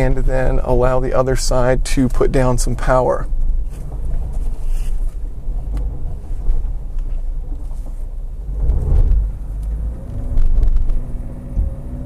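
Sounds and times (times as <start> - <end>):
gravel crackling: 0.0 - 11.8
car engine rumbling under load: 0.0 - 12.0.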